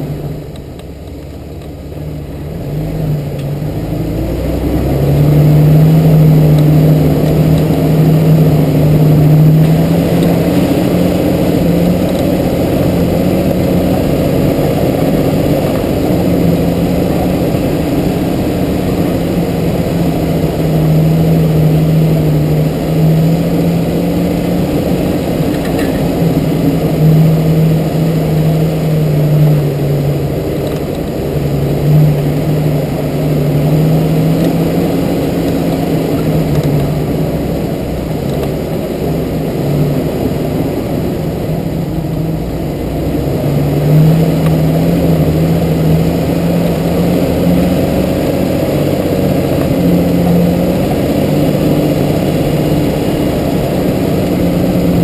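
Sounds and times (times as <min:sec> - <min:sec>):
off-road vehicle engine droning: 0:00.0 - 0:55.0
tyre and drivetrain rumble: 0:00.0 - 0:55.0.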